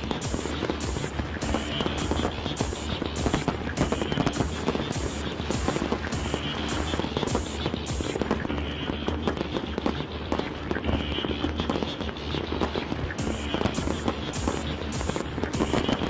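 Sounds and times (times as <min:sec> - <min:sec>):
fireworks bangs and crackles: 0:00.0 - 0:16.0
music with bass and beat: 0:00.0 - 0:16.0.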